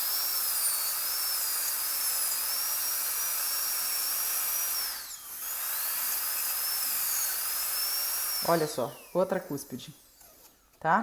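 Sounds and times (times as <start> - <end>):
dental drill whining: 0.0 - 10.8.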